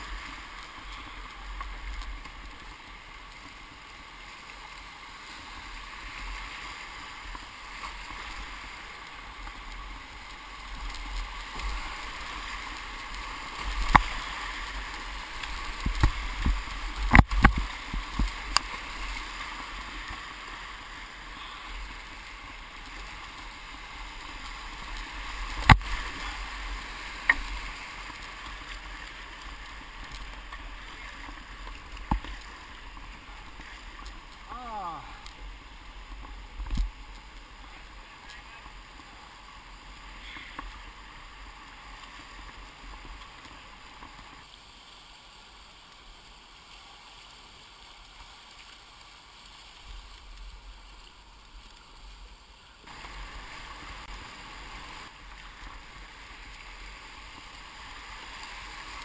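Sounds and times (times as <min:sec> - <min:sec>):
whitewater rushing: 0:00.0 - 0:44.4, 0:52.8 - 0:59.0
kayak and paddle splashes: 0:00.0 - 0:59.0.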